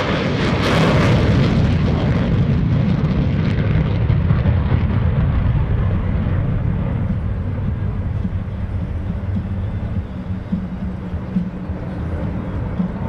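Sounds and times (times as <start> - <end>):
loud deep jet rumble: 0.0 - 13.0.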